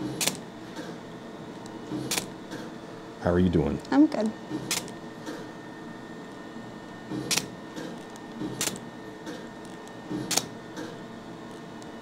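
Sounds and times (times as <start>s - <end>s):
faint laser unit hum: 0.0s - 12.0s.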